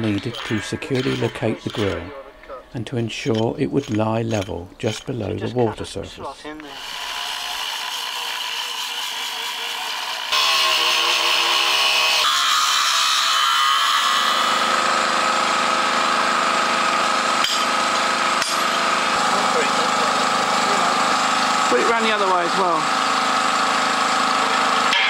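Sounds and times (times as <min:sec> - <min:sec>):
angle grinder grinding stone: 0:00.0 - 0:02.1, 0:02.8 - 0:06.0, 0:06.6 - 0:25.0.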